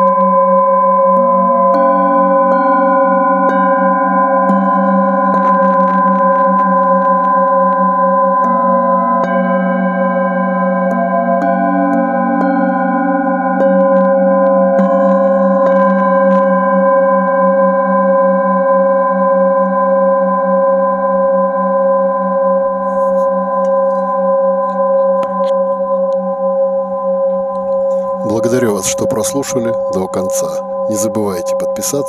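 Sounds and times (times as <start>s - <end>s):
singing bowls ringing: 0.0s - 32.0s.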